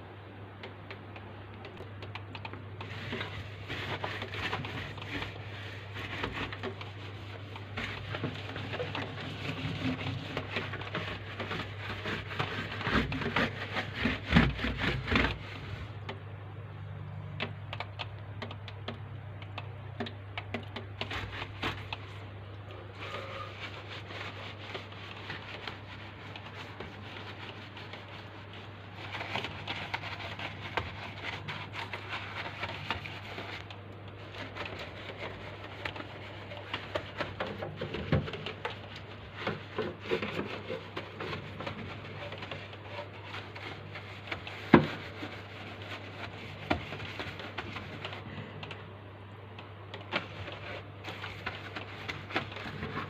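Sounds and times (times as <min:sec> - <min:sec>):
low steady hum: 0:00.0 - 0:53.0
brush scrubbing: 0:02.8 - 0:16.2, 0:20.4 - 0:48.6, 0:49.8 - 0:53.0.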